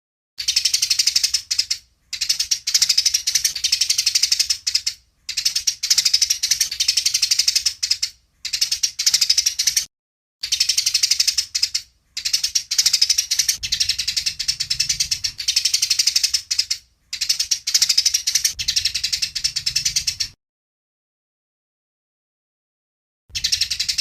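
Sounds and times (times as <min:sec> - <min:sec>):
sparrows chattering: 0:00.4 - 0:20.4, 0:23.3 - 0:24.0.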